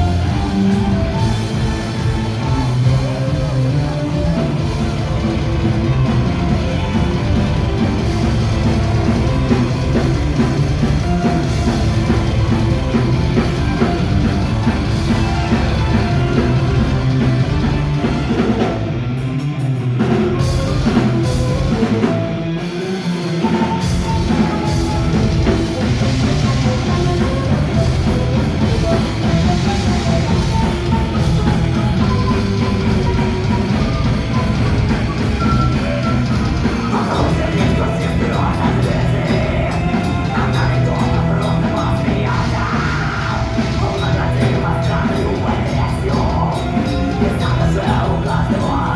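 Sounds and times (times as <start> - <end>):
distorted guitars: 0.0 - 48.9
drum kit: 0.0 - 48.9
rock band playing: 0.0 - 48.9.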